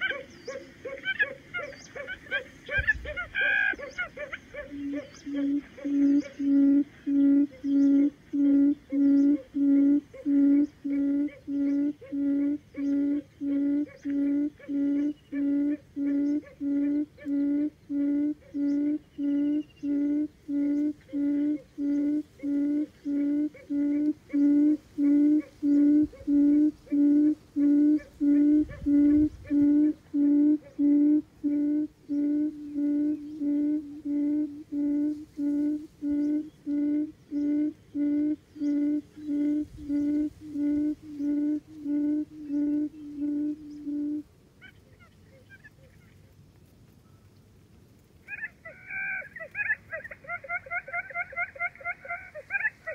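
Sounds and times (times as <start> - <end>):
buttonquail low hoots: 0.0 - 46.2, 48.2 - 52.9.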